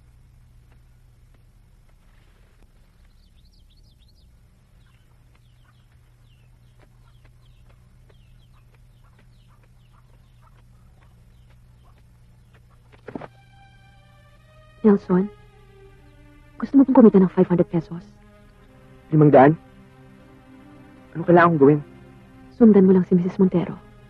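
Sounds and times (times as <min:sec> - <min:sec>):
faint bird chirping: 0:00.0 - 0:24.0
steady low hum: 0:00.0 - 0:24.0.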